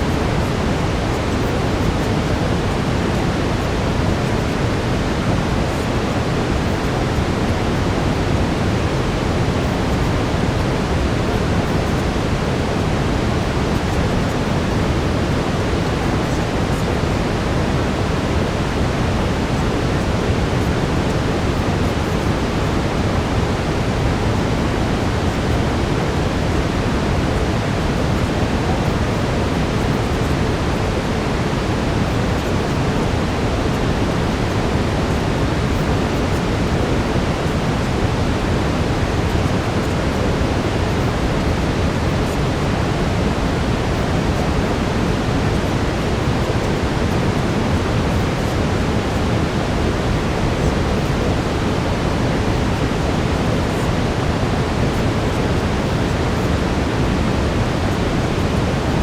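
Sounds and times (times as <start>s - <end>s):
steady brown noise hiss: 0.0s - 59.0s.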